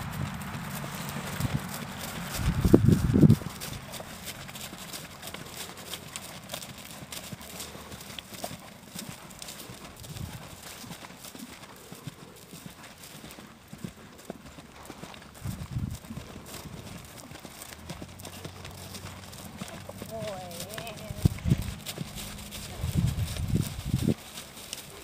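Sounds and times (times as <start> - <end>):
hoofbeats on grass: 0.0 - 25.0.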